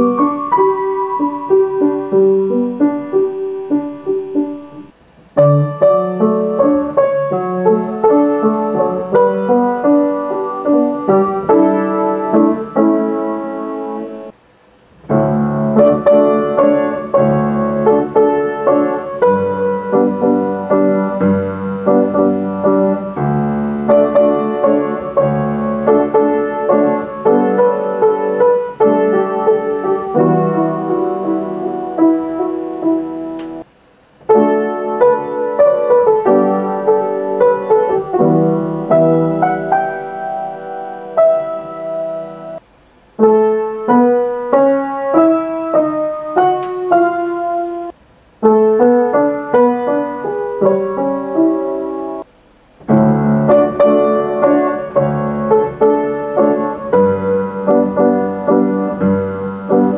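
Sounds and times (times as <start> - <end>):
piano playing melody and chords: 0.0 - 59.9.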